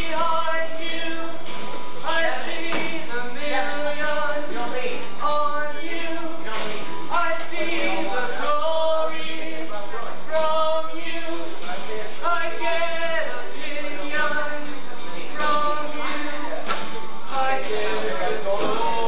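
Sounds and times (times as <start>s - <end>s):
music playing: 0.0s - 19.0s
several voices singing together: 0.0s - 19.0s.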